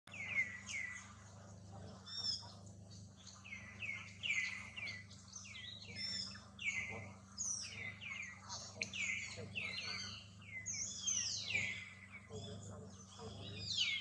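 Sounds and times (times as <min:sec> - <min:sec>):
faint low hum: 0:00.1 - 0:14.0
small birds chirping: 0:00.1 - 0:14.0.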